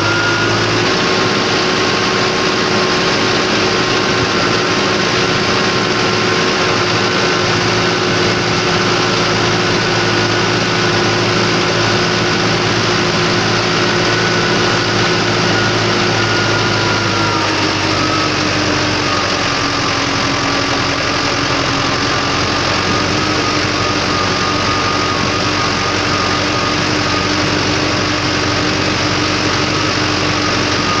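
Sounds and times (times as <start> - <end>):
thin whine: 0.0 - 31.0
tractor diesel engine running: 0.0 - 31.0.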